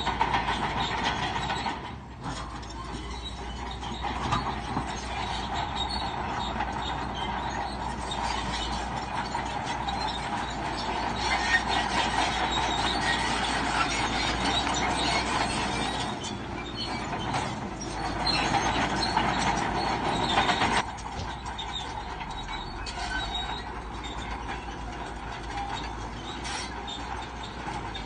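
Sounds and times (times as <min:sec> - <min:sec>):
bulldozer engine running: 0:00.0 - 0:28.0
steel tracks squealing and clanking: 0:00.0 - 0:28.0.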